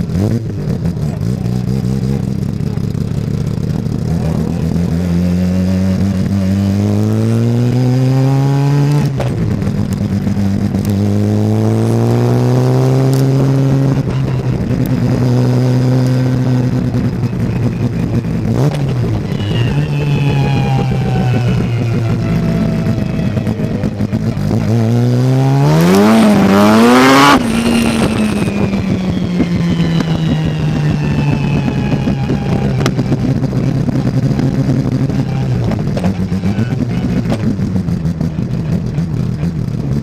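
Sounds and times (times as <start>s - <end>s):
rotary race car engine revving: 0.0s - 40.0s.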